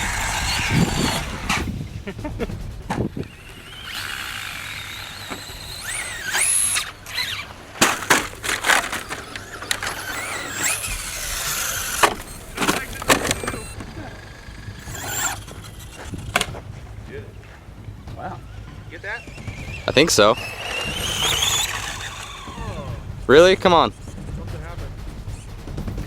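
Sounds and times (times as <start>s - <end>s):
toy truck motors whining: 0.0s - 23.9s
sharp knocks of landings: 0.0s - 26.0s.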